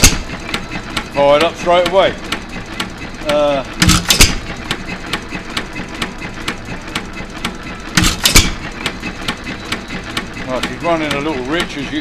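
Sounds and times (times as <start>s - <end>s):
engine clicking steadily: 0.0s - 12.0s
engine firing stroke: 0.0s - 12.0s.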